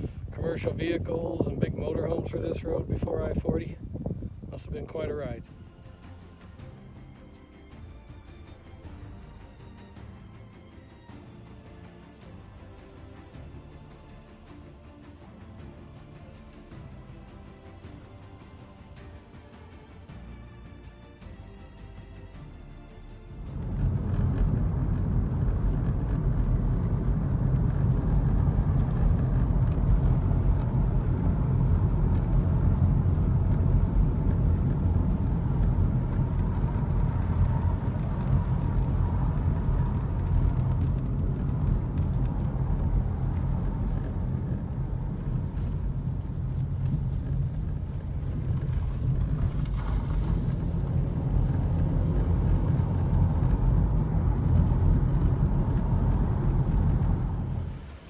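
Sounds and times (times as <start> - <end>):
car engine and tyres rumbling: 0.0 - 19.0, 21.3 - 58.0.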